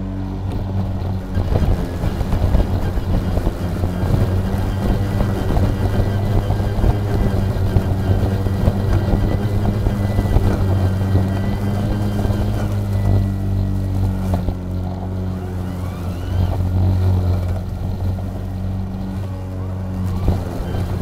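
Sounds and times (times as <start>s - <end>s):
lawn mower cutting grass: 0.0s - 21.0s.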